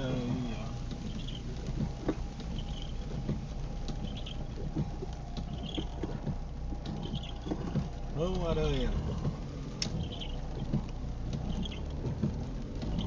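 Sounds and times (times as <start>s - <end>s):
car engine and road rumble: 0.0s - 13.0s
light taps of water: 0.2s - 13.0s.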